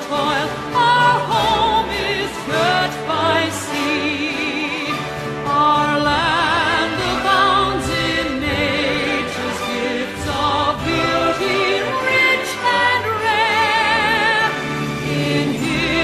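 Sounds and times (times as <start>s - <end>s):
choir singing operatically: 0.0s - 16.0s
orchestral accompaniment: 0.0s - 16.0s.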